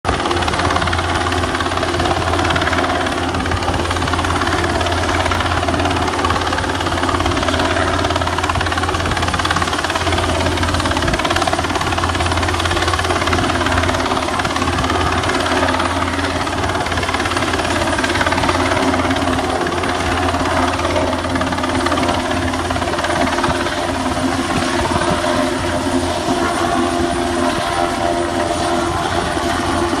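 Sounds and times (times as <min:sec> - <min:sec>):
helicopter hovering: 0:00.1 - 0:30.0.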